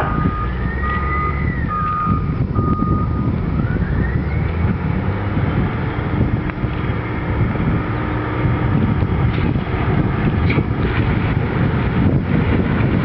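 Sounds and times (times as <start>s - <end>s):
heavy vehicle rumble: 0.0s - 13.0s.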